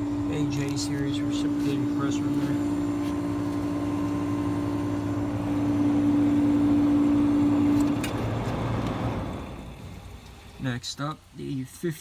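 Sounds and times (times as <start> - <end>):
air conditioner compressor hum: 0.0 - 12.0.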